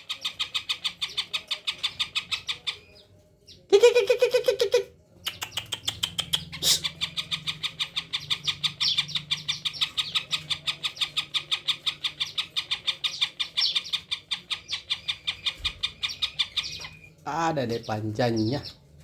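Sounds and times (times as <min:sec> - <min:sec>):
bird chattering song: 0:00.0 - 0:19.0.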